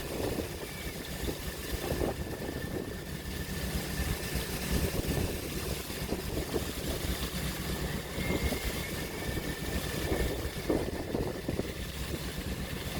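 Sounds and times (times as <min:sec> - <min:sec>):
steady low rumble: 0:00.0 - 0:12.9
waves washing and splashing: 0:00.0 - 0:12.9.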